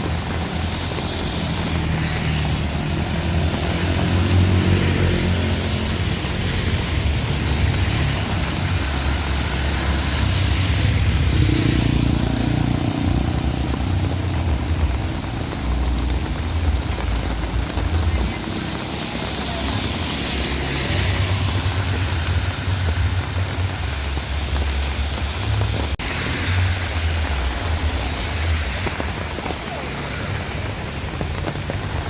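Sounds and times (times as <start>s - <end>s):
deep rumble: 0.0s - 32.0s
heavy rain falling: 0.0s - 32.0s.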